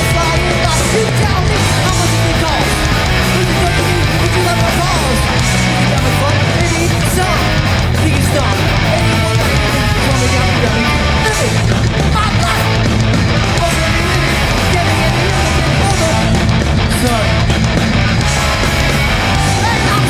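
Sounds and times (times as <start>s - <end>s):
bass: 0.0s - 20.0s
distorted electric guitars: 0.0s - 20.0s
drums: 0.0s - 20.0s.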